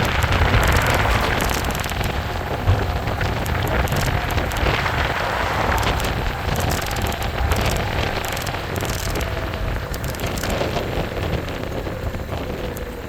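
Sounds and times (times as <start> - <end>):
light clicks and rattles: 0.0 - 13.0
tyres rumbling on the road: 0.0 - 13.0
wind buffeting the microphone: 0.0 - 13.0.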